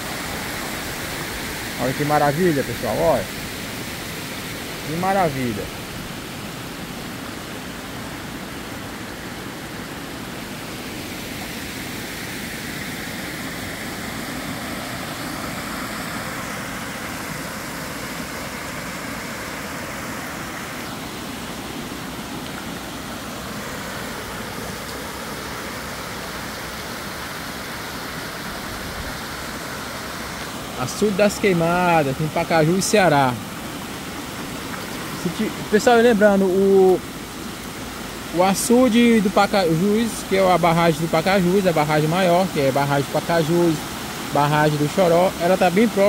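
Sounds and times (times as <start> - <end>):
water rushing over spillway: 0.0 - 46.0.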